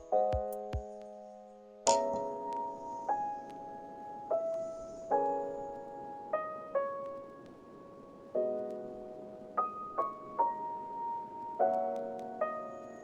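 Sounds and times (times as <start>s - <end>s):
slow gentle instrumental music: 0.0s - 13.0s.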